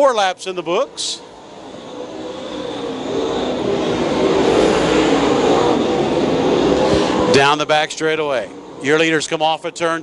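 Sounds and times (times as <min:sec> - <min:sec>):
race car engines running hard: 0:00.0 - 0:10.0.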